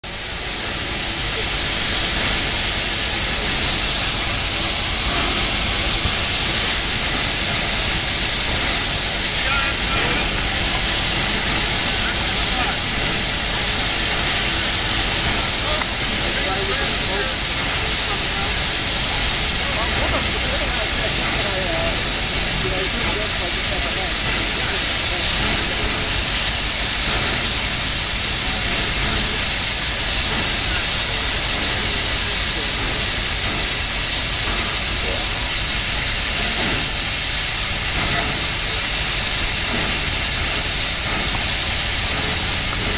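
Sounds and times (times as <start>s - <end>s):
loud hiss of escaping steam: 0.0s - 42.9s.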